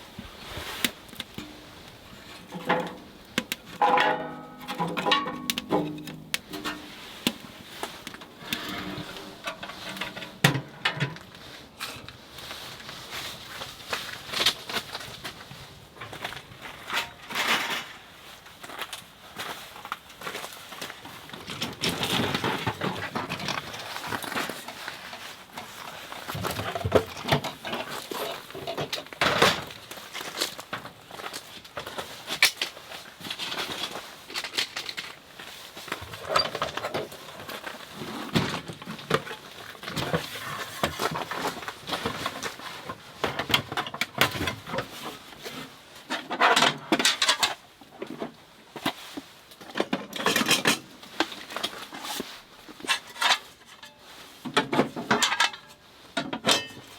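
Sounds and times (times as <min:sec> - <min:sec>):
camping gear rustling: 0:00.0 - 0:56.9.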